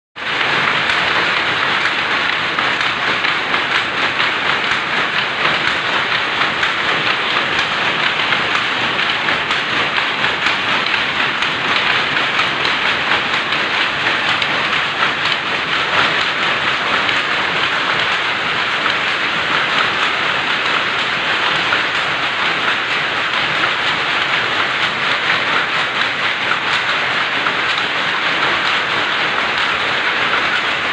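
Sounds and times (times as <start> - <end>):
machine rattling: 0.2 - 30.9.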